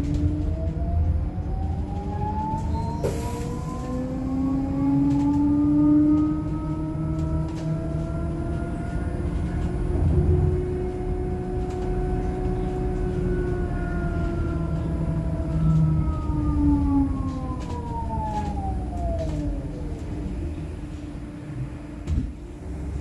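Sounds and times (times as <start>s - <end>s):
electric bus motor whine: 0.0s - 23.0s
low road rumble: 0.0s - 23.0s.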